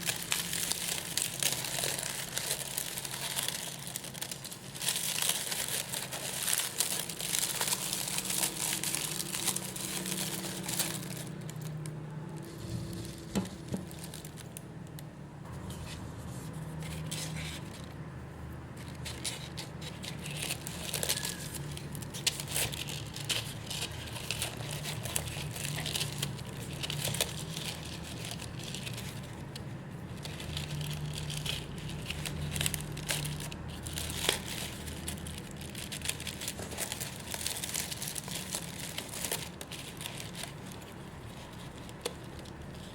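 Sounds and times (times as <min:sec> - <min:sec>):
plastic packaging crinkling: 0:00.0 - 0:14.9, 0:18.7 - 0:42.9.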